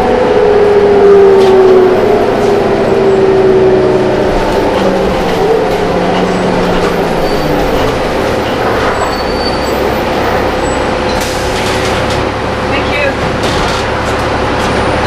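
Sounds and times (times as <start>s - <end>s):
bus diesel engine rumble: 0.0s - 15.0s
drivetrain whine: 0.0s - 15.0s
road noise: 0.0s - 15.0s.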